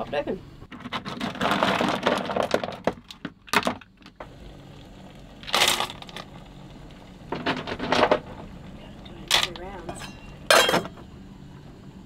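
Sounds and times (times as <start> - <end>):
boiling water hissing: 0.0 - 12.0.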